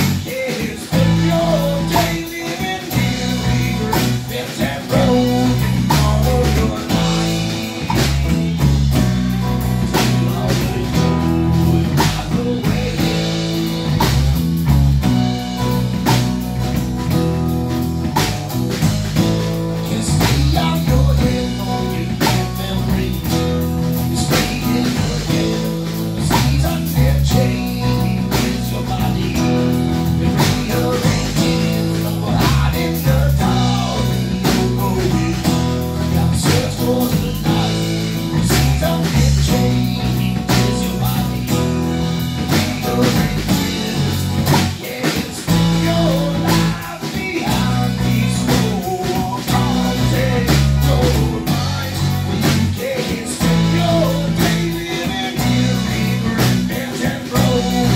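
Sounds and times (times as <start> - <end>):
drum kit: 0.0 - 57.9
electric bass: 0.0 - 57.9
guitar: 0.0 - 57.9.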